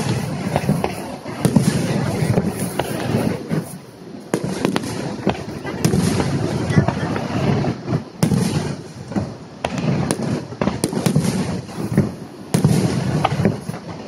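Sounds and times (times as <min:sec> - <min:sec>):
fireworks bursting with sharp bangs: 0:00.0 - 0:14.0
fireworks crackle and rumble: 0:00.0 - 0:14.0.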